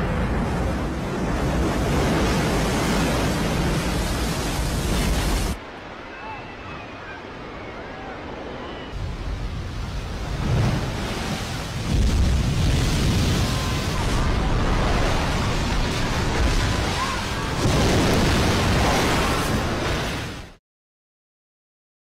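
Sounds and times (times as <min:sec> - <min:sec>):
seawater rushing roar: 0:00.0 - 0:20.6.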